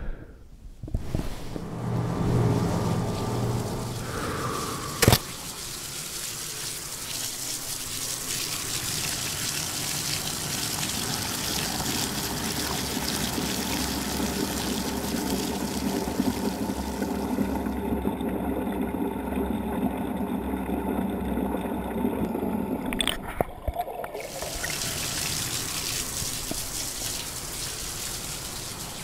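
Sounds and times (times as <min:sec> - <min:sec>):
water pouring from a tap: 0:02.3 - 0:29.0.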